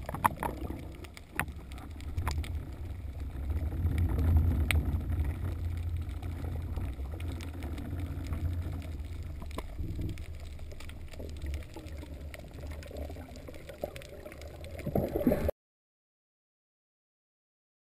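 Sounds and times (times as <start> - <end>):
faint clicks: 0.0 - 15.5
surge of water: 0.0 - 15.5
underwater rumble of water: 0.0 - 15.5.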